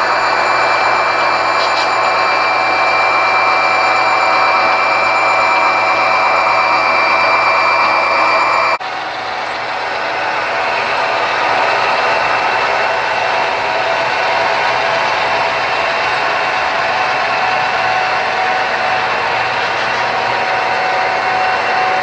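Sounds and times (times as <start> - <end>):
model train whirring rush: 0.0 - 22.0.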